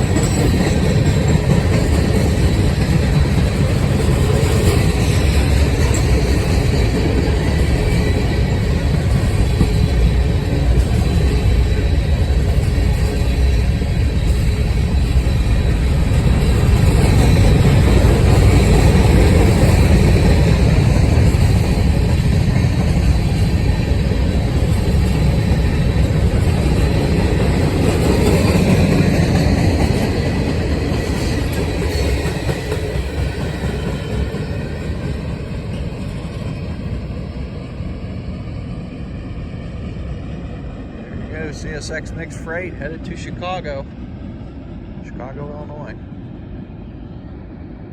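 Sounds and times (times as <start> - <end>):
train cars rolling on steel wheels: 0.0 - 43.8.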